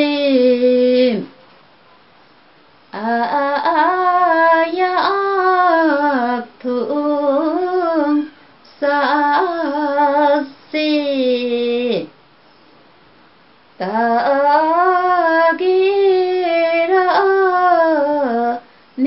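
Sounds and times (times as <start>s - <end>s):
woman singing unaccompanied: 0.0s - 1.4s, 2.9s - 12.2s, 13.8s - 19.0s.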